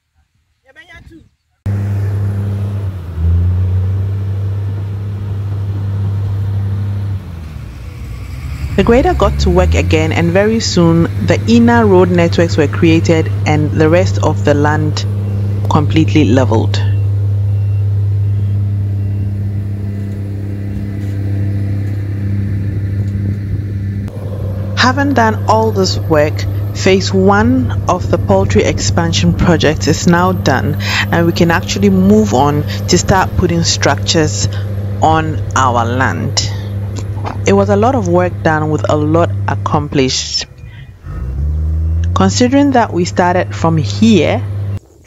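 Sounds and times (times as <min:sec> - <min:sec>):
diesel engine droning: 0:01.6 - 0:45.0.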